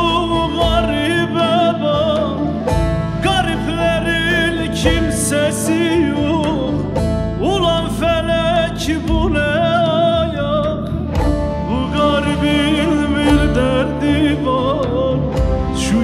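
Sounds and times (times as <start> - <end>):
man singing folk song: 0.0 - 16.0.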